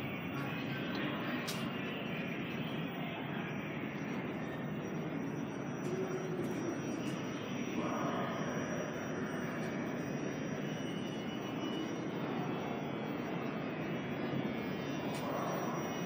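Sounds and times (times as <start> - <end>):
subway train rolling on rails: 0.0 - 16.0.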